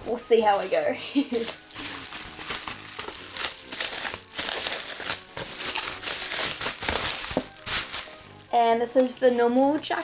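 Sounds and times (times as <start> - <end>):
bubble wrap crinkling: 0.0 - 10.0.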